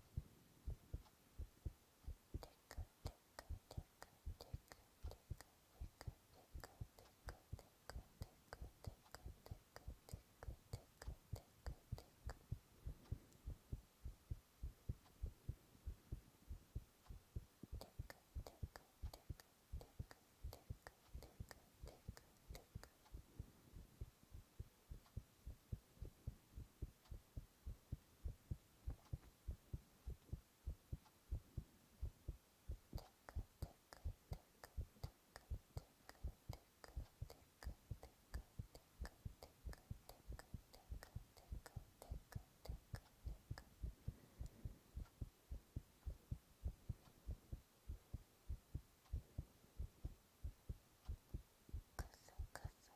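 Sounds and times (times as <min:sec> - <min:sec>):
heartbeat thumps: 0:00.0 - 0:04.7, 0:05.3 - 0:52.6
faint clicks: 0:00.1 - 0:13.8, 0:17.0 - 0:52.9.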